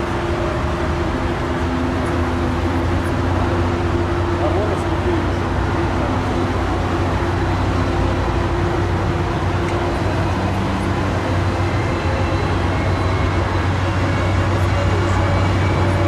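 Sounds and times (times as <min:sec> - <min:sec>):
engine low hum: 0:00.0 - 0:16.0
faint high engine whine: 0:00.0 - 0:16.0.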